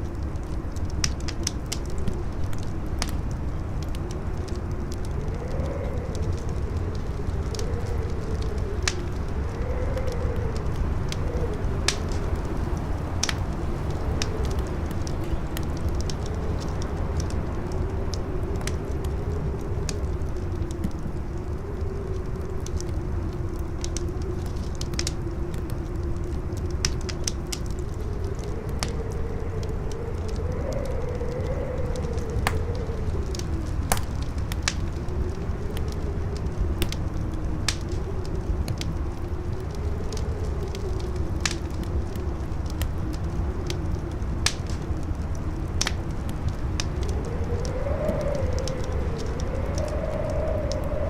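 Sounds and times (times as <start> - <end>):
campfire crackling: 0.0 - 51.0
howling wind: 0.0 - 51.0.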